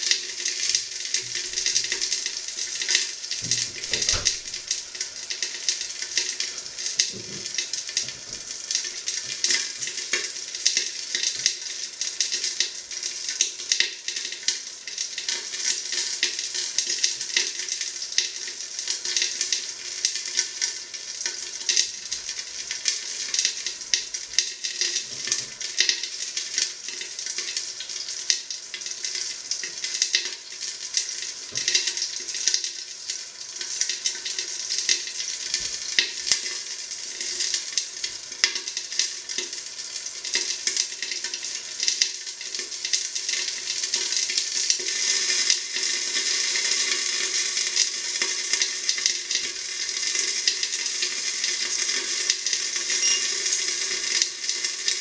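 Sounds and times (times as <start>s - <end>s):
chicken frying in a pan: 0.0s - 55.0s.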